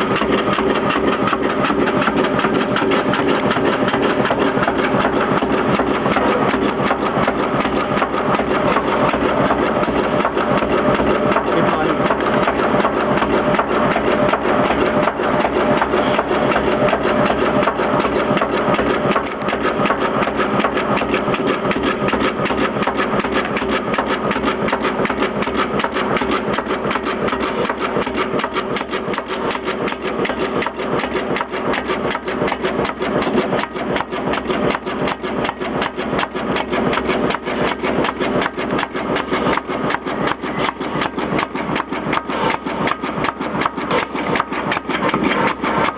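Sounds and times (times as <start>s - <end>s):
cutting machine running: 0.0s - 45.9s.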